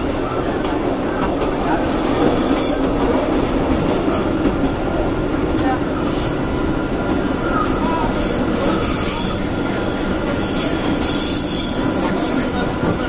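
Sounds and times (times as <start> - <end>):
railcar running rumble: 0.0 - 13.0.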